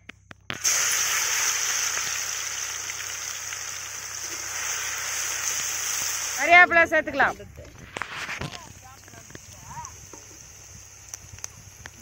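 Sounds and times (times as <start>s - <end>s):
garlic sizzling in hot oil: 0.5s - 12.0s.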